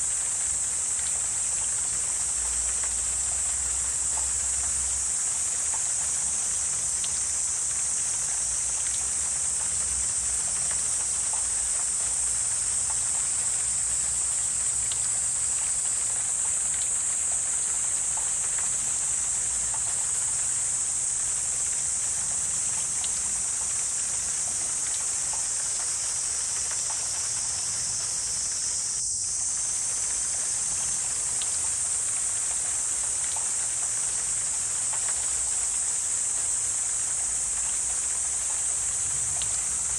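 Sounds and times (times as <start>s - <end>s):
insects chorus: 0.0s - 39.9s
faint ticks: 0.5s - 28.1s, 29.6s - 39.9s.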